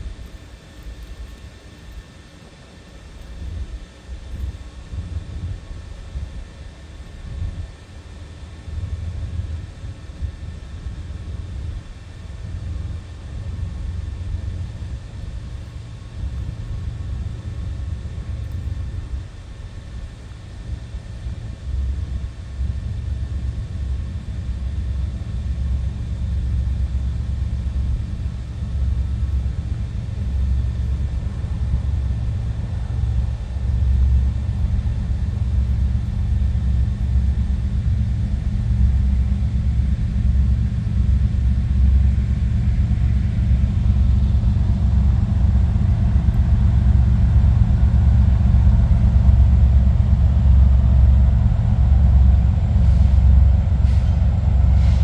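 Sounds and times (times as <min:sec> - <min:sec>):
diesel locomotives rumbling: 0:00.0 - 0:55.0.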